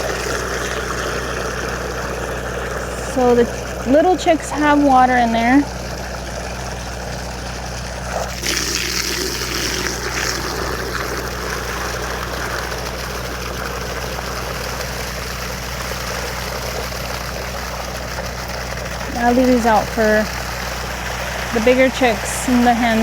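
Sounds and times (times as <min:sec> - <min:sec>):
hose water splashing into bucket: 0:00.0 - 0:23.0
low engine hum: 0:00.0 - 0:23.0.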